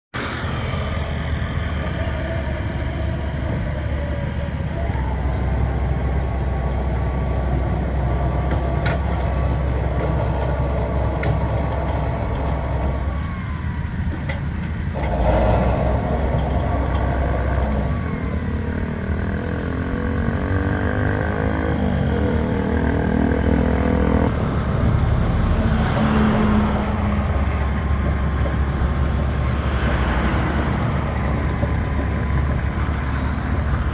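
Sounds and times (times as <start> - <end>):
heavy diesel engine droning: 0.2 - 33.9.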